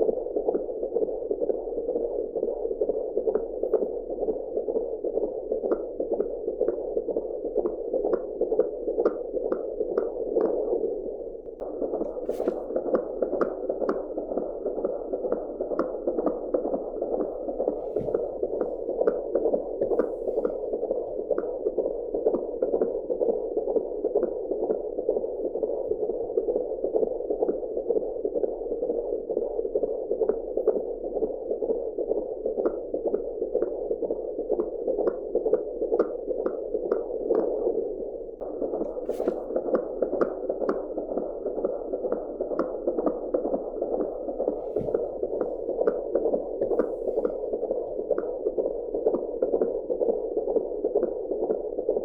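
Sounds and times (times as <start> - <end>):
fetal heartbeat pulsing: 0.0 - 52.0.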